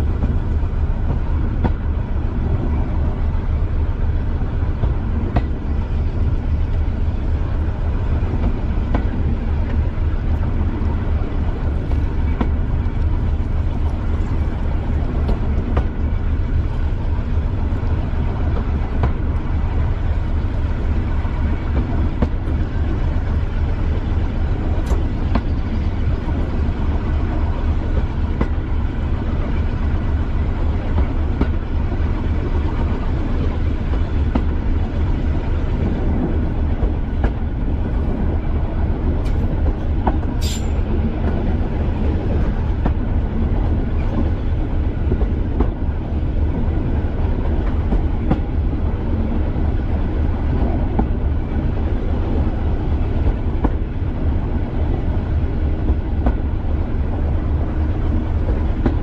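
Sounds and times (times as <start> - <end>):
train diesel engine pulsing: 0.0 - 59.0
wheels rumbling on rails: 0.0 - 59.0.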